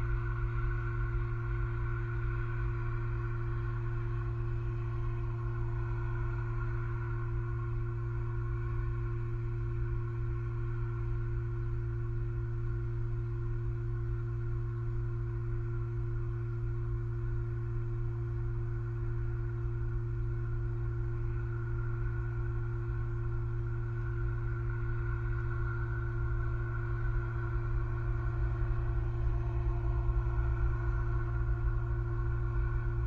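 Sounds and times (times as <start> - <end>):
steady multi-tone hum: 0.0 - 33.0.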